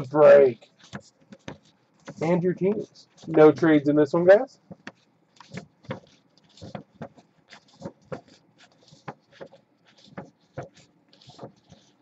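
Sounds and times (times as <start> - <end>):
paper sheet rustling: 0.0 - 12.0.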